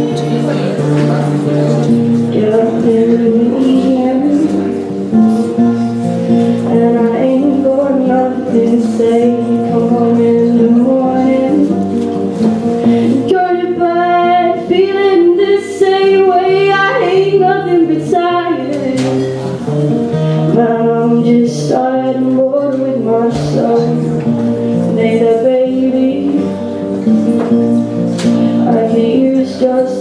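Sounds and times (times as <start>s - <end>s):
acoustic guitar: 0.0s - 30.0s
woman singing: 2.2s - 5.1s, 6.6s - 19.4s, 20.4s - 27.7s, 28.5s - 30.0s.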